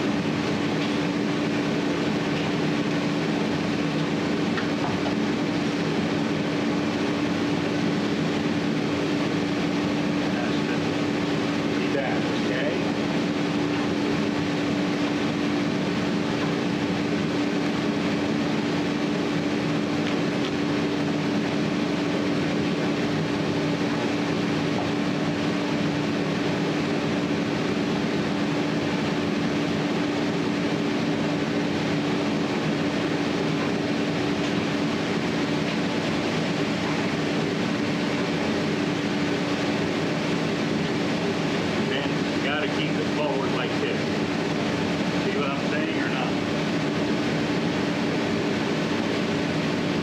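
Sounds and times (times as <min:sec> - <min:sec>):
fan motor droning: 0:00.0 - 0:50.0.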